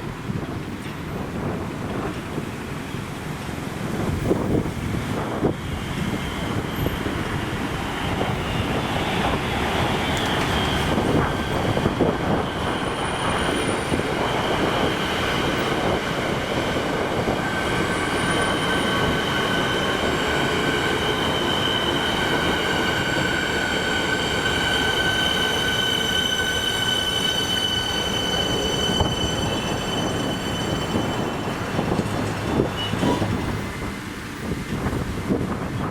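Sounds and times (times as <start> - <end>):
train rumble: 0.0 - 35.9
train wheels squealing on rails: 0.5 - 35.9.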